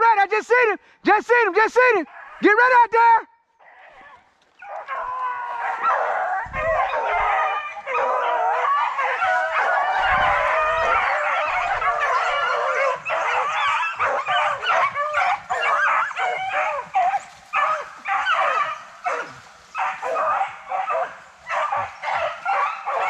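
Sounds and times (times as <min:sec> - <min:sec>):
hounds baying: 0:02.0 - 0:02.5, 0:03.6 - 0:23.0.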